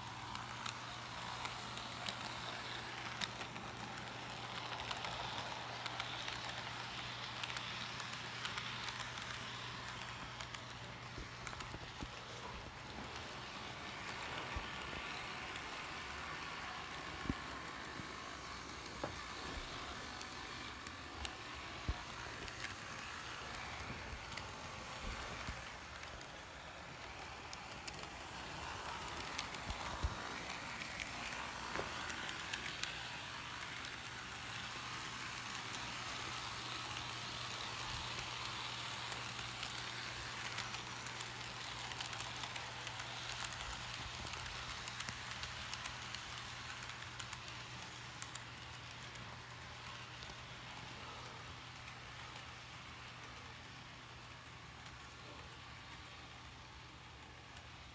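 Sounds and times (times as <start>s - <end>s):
model train rolling on track: 0.0s - 57.9s.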